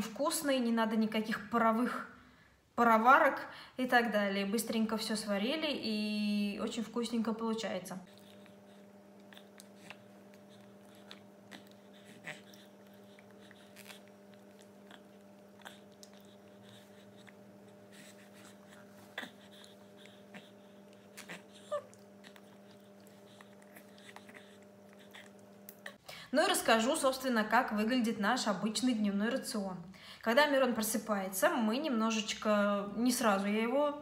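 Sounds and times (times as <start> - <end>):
steady low hum: 1.1 - 34.0.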